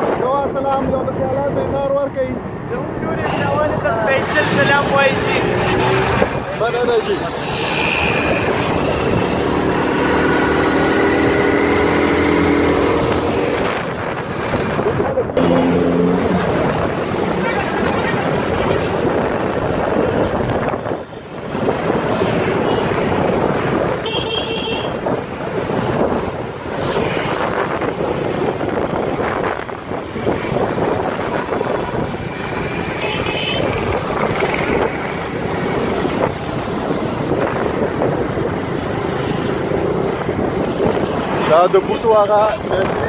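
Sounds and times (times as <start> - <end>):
motorcycle engine and road noise: 0.0 - 43.0
wind buffeting microphone: 0.0 - 43.0.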